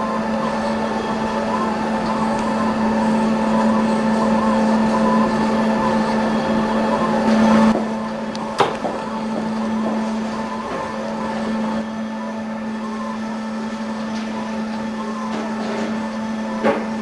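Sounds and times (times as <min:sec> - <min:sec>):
milling machine spindle whining: 0:00.0 - 0:17.0.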